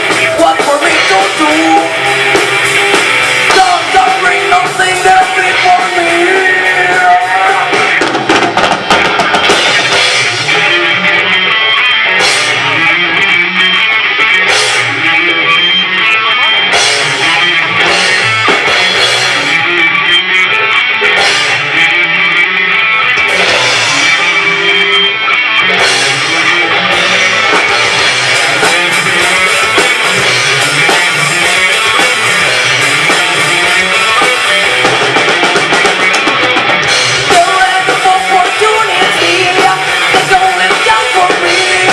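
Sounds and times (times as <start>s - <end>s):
drum kit: 0.0s - 41.9s
electric guitar: 0.0s - 41.9s.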